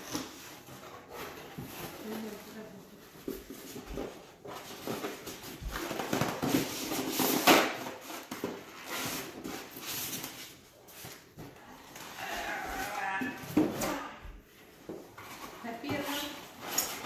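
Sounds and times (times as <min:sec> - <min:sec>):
cardboard and foam packaging rustling: 0:00.0 - 0:17.0.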